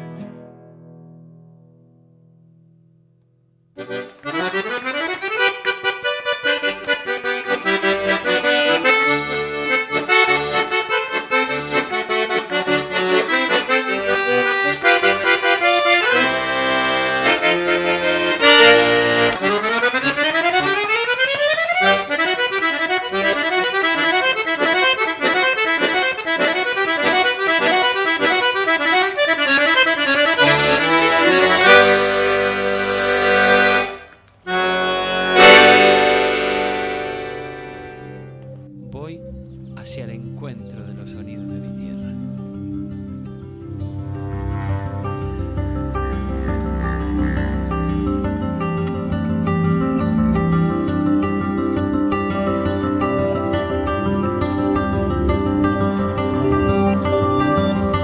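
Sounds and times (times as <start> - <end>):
accordion folk tune: 0.0 - 0.8, 3.7 - 58.0.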